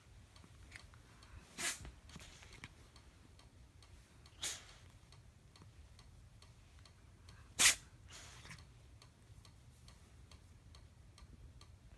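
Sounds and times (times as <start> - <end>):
faint even ticking: 0.0 - 11.9.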